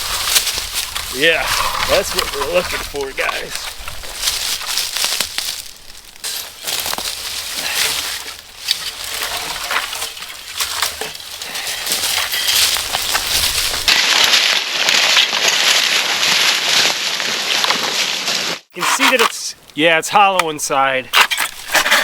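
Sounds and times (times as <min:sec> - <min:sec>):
dry wood crunching and cracking: 0:00.0 - 0:22.0.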